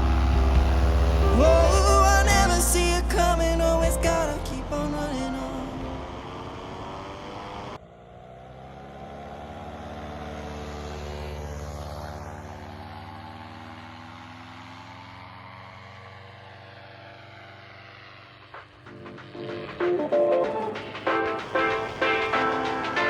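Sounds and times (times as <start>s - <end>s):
paramotor engine and propeller: 0.0s - 3.7s, 4.4s - 23.0s.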